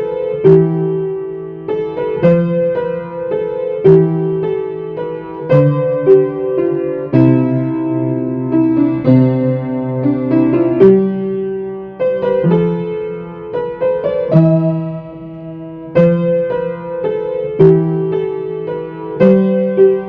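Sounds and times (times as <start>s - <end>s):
solo piano carol: 0.0s - 20.0s.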